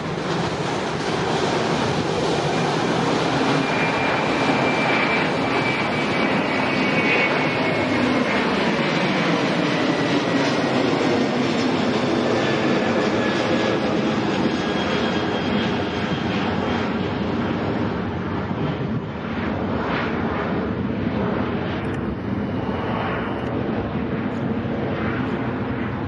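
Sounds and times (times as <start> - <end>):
faint high engine whine: 0.0 - 26.0
jet engines roaring at takeoff: 0.0 - 26.0.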